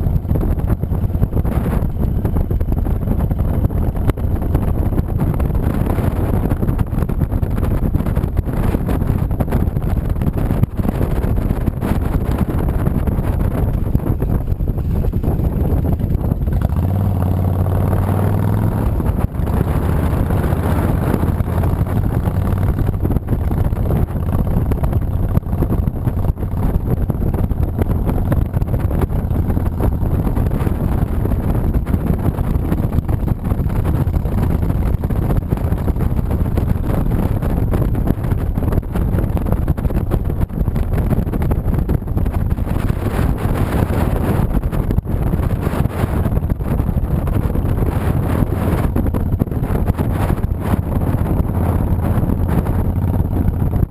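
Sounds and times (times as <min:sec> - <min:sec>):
motorcycle engine rumbling: 0:00.0 - 0:53.9
wind buffeting microphone: 0:00.0 - 0:53.9.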